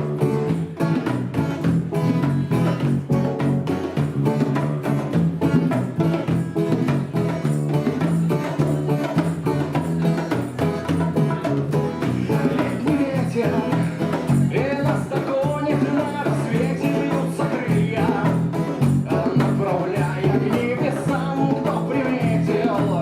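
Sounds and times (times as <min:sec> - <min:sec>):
drum beat: 0:00.0 - 0:23.0
strummed guitar chords: 0:00.0 - 0:23.0.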